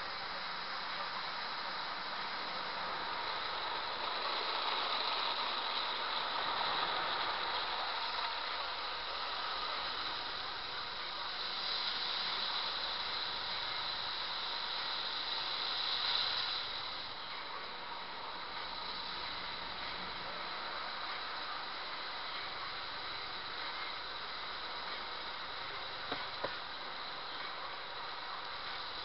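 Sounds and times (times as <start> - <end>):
water spraying on car: 0.0 - 17.1, 17.9 - 29.0.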